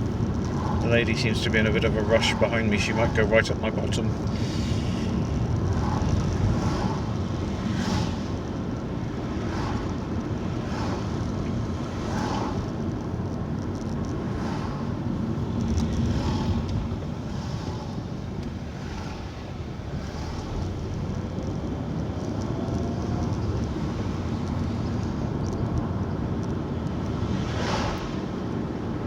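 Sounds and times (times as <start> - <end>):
car engine: 0.0 - 29.0
road rumble: 0.0 - 29.0
wind noise: 0.0 - 29.0.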